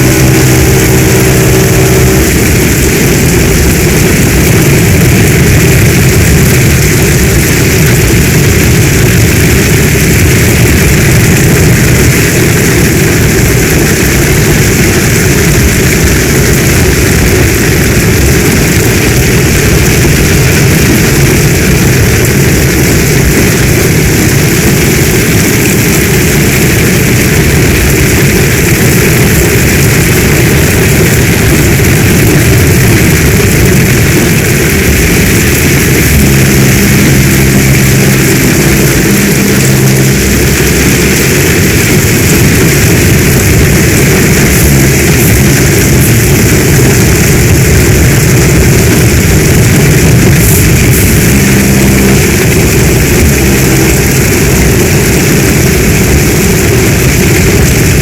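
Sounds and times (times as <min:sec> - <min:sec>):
heavy rain falling: 0:00.0 - 0:58.0
low steady hum: 0:00.0 - 0:58.0.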